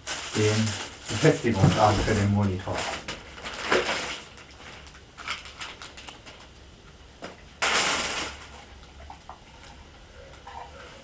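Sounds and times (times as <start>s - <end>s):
plastic wrap rustling: 0.0s - 6.7s, 7.6s - 9.9s.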